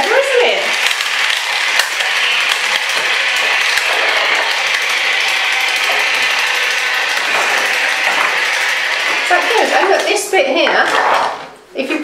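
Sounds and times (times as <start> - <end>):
toy robot motor whirring: 0.0 - 10.2.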